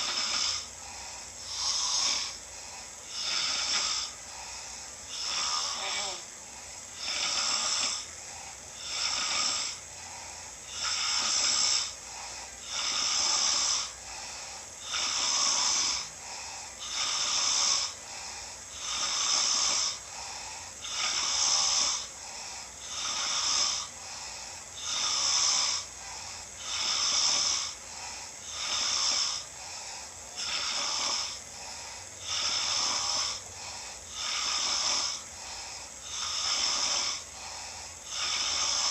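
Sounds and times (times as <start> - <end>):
man snoring: 0.0 - 38.9.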